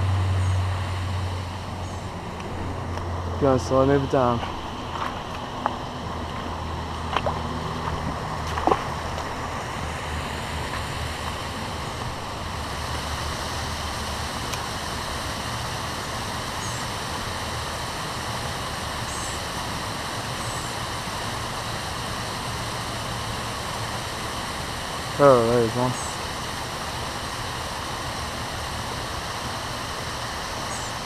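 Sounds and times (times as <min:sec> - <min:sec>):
river water flowing: 0:00.0 - 0:31.0.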